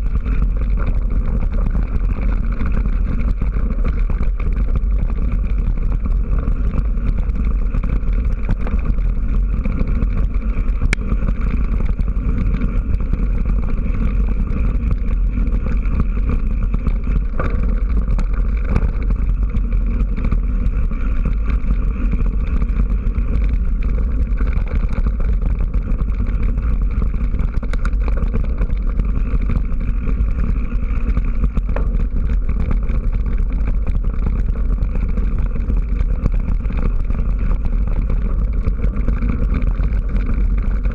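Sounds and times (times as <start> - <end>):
tyres on dirt track: 0.0 - 40.9
wind on microphone: 0.0 - 40.9.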